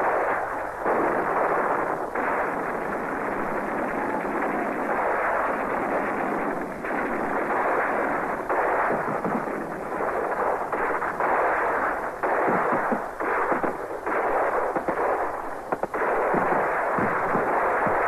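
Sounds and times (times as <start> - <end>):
explosions: 0.0 - 18.0
heavy continuous gunfire: 0.0 - 18.0.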